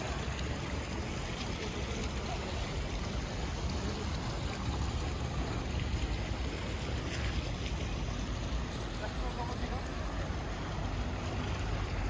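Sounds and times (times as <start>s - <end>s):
rain on a wet street: 0.0s - 12.0s.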